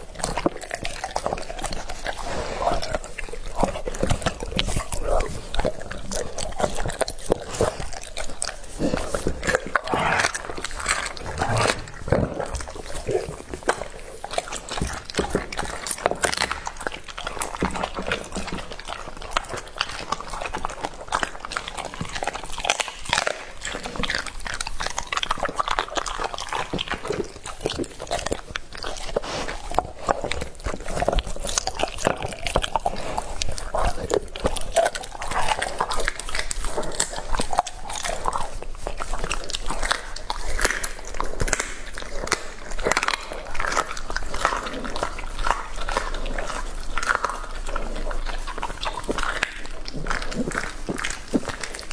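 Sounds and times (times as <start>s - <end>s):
dog licking and smacking lips: 0.0s - 51.9s
wet mouth clicks: 0.0s - 51.9s.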